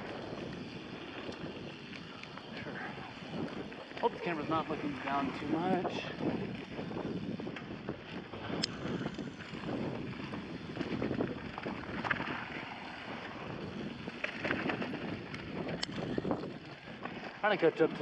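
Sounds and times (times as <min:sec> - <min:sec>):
bike clicks and rattles: 0:00.0 - 0:18.0
wind buffeting microphone: 0:00.0 - 0:18.0.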